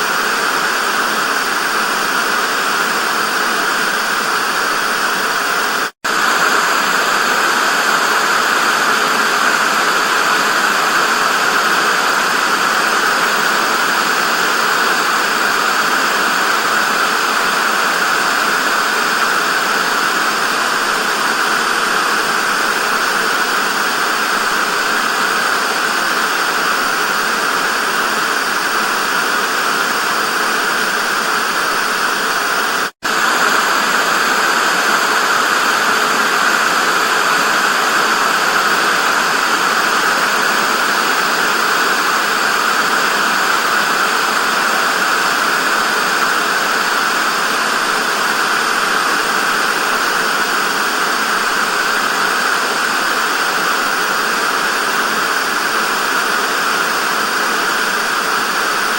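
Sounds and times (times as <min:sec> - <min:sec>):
television static hiss: 0:00.0 - 0:58.9.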